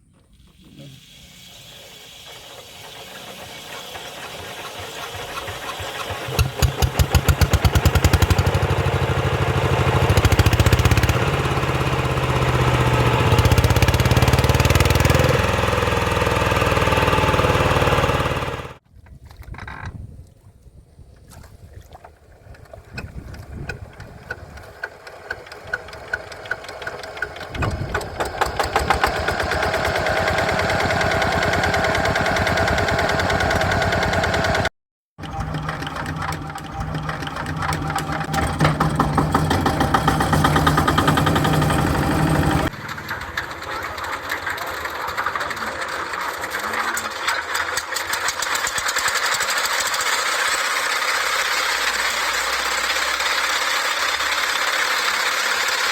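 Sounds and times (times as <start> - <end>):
small diesel engine starting: 0.2 - 18.8, 22.8 - 55.9
diesel engines running: 1.1 - 18.8, 23.6 - 55.9.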